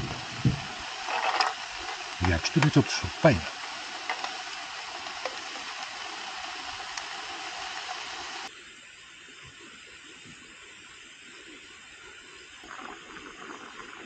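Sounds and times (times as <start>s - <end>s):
gas stove burner hissing: 0.0s - 14.0s.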